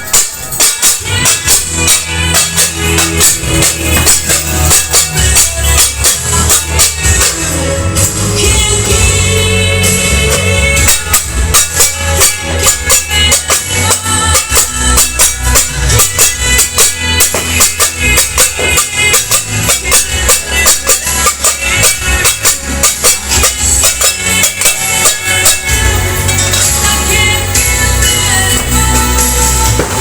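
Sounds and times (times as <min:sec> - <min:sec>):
loud music with fast beat: 0:00.0 - 0:30.0.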